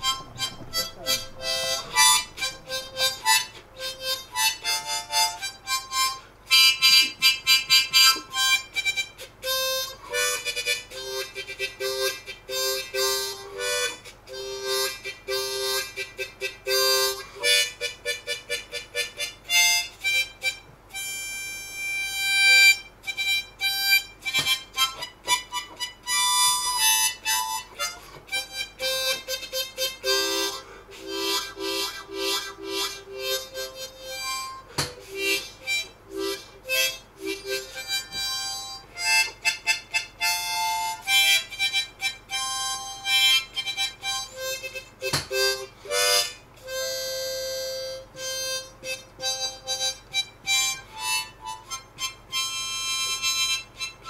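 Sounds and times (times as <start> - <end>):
harmonica tune: 0.0 - 54.0.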